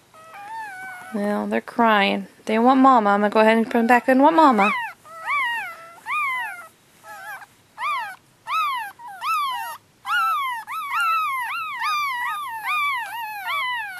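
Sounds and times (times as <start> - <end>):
puppies crying: 0.0 - 1.2, 3.7 - 13.9.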